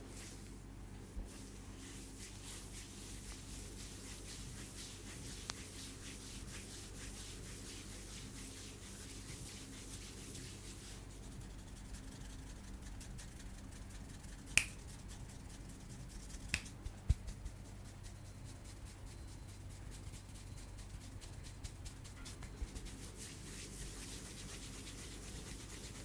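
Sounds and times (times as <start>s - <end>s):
hands rubbing hair and scalp: 0.0s - 26.0s.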